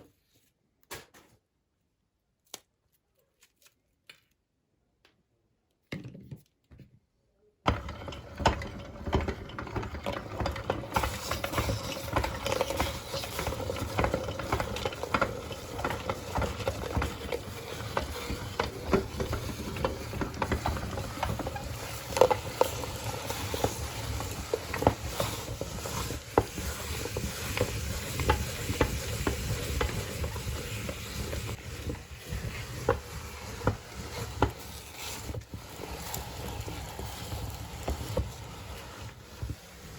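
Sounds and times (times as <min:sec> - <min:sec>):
meat grinder crushing candy: 0:07.7 - 0:39.9.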